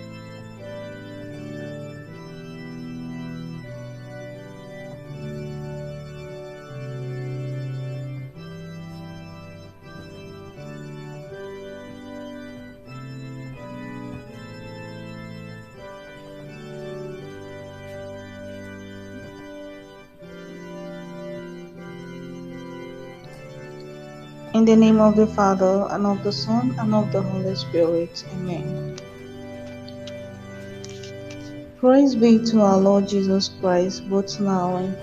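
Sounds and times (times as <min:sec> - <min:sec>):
organ chords: 0:00.0 - 0:35.0.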